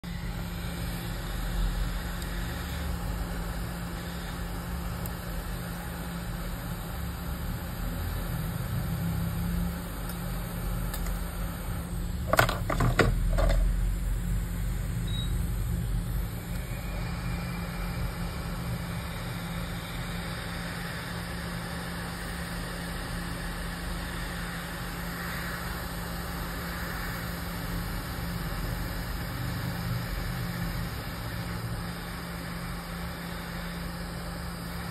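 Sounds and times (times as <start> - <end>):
hot-air station blowing hum: 0.0 - 34.9.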